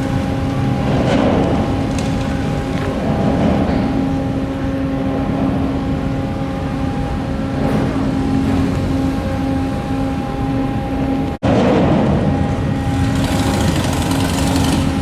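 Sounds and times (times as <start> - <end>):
constant tonal hum: 0.0 - 15.0
ferry engines rumbling: 0.0 - 15.0.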